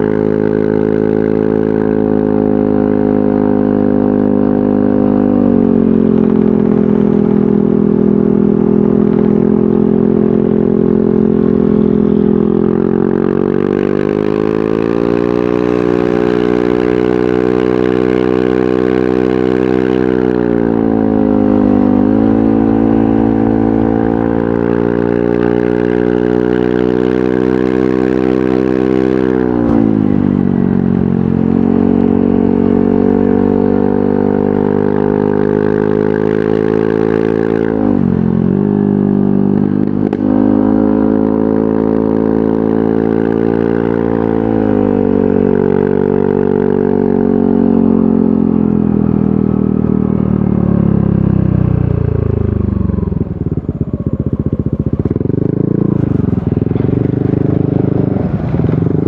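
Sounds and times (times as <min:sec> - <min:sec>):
scooter engine while riding: 0:00.0 - 0:59.0.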